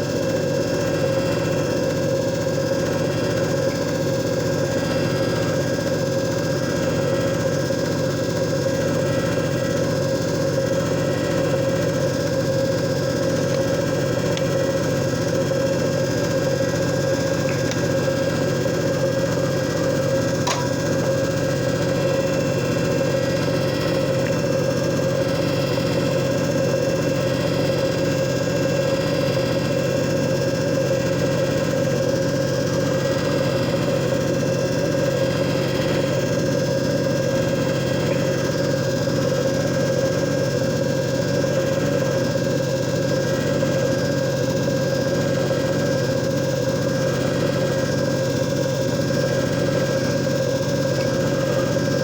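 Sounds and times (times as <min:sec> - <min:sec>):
machine motor humming: 0:00.0 - 0:52.0.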